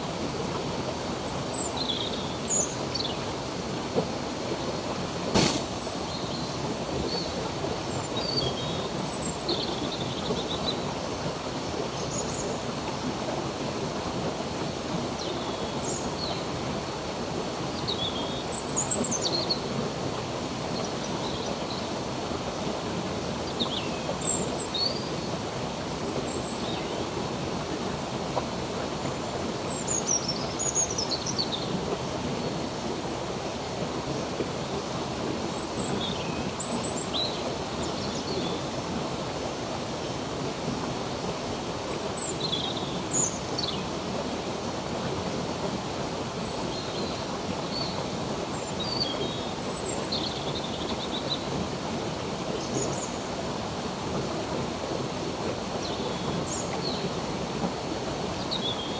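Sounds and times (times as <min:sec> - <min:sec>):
stream water running: 0:00.0 - 0:58.9.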